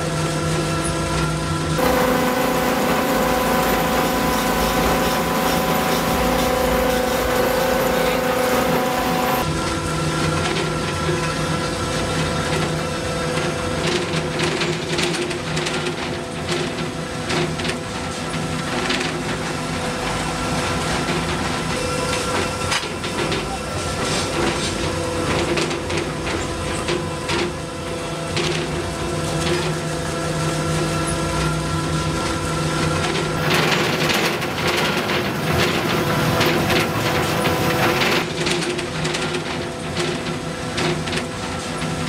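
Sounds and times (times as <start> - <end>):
machinery humming: 0.0 - 42.0.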